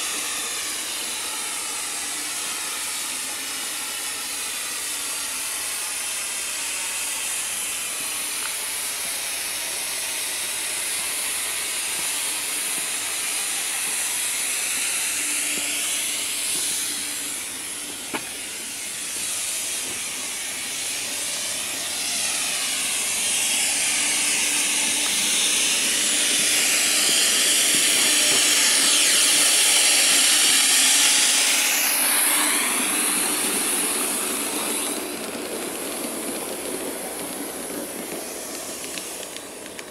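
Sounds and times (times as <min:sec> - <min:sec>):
steam locomotive hissing: 0:00.0 - 0:39.9.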